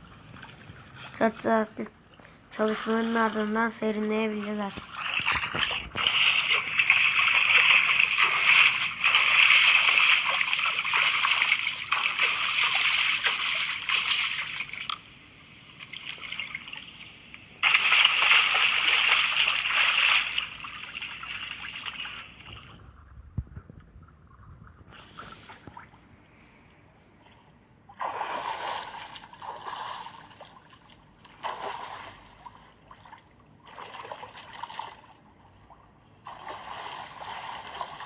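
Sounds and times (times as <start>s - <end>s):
water splashing and sloshing: 0.0s - 38.0s.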